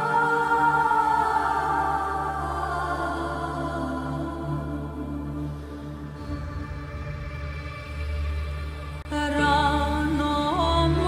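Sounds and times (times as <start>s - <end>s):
low droning background music: 0.0s - 11.0s.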